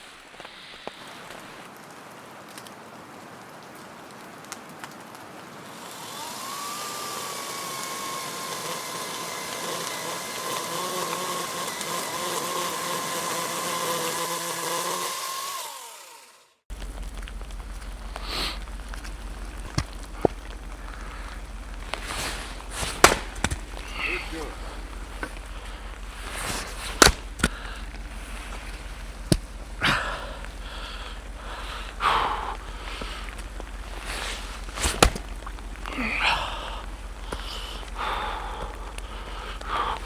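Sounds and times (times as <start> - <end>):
rain pattering: 0.0 - 12.9, 16.7 - 40.0
small motor whining: 5.7 - 40.0.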